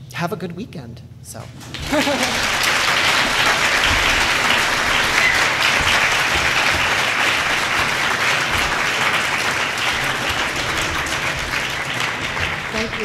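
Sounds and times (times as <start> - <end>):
audience applauding: 1.5 - 13.0.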